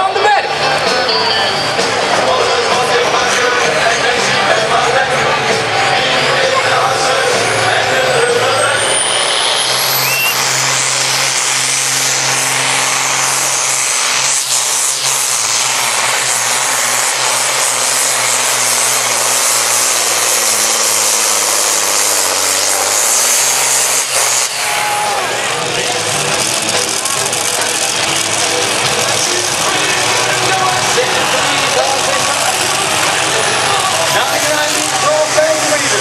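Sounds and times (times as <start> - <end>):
tractor engine running flat out: 0.0 - 36.0.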